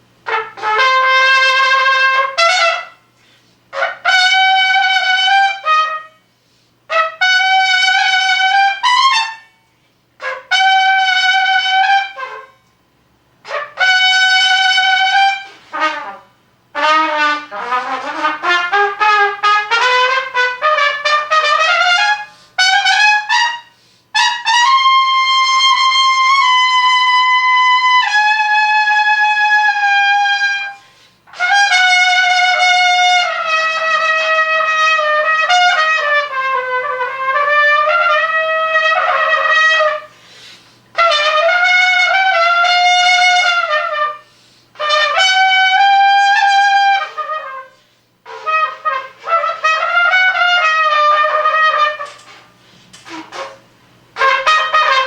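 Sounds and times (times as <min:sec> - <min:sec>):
solo trumpet: 0:00.0 - 0:55.0.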